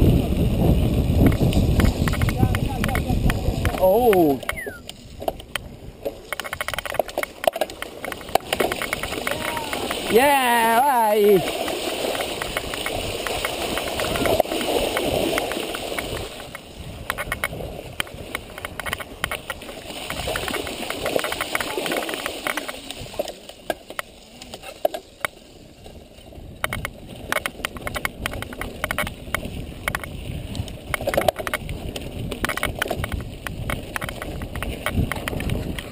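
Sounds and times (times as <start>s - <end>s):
bike rattling over bumps: 0.0s - 4.4s, 5.1s - 10.2s, 11.4s - 24.2s, 24.8s - 35.9s
bike tyres splashing through water: 0.0s - 35.9s.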